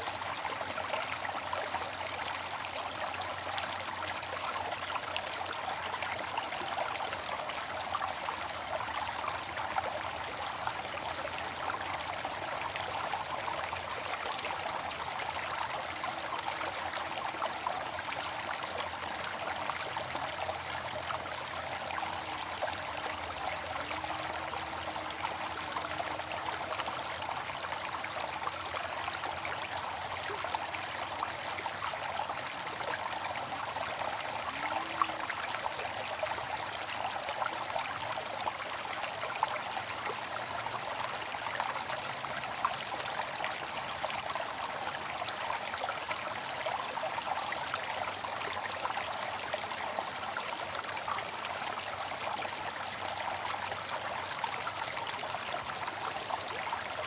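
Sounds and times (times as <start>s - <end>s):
water fountain splashing: 8.3s - 57.0s.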